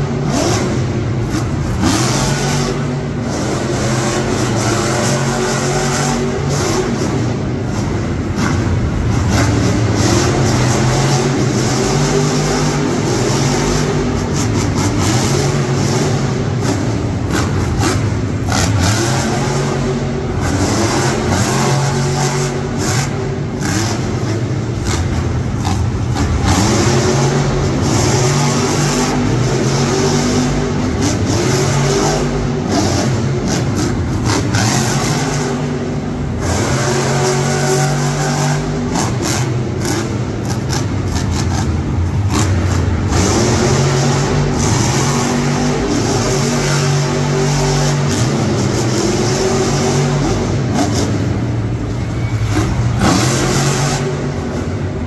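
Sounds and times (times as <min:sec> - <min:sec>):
truck engine revving hard: 0:00.0 - 0:55.0.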